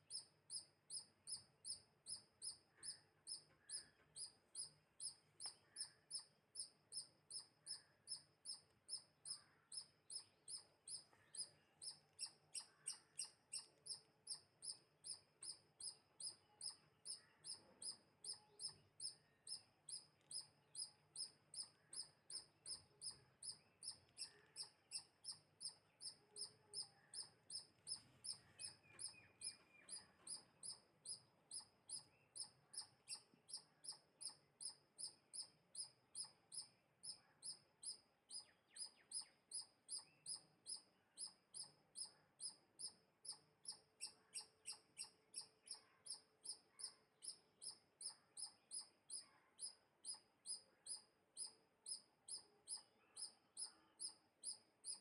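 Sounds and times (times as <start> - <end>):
faint high bird chirp: 0.0 - 55.0.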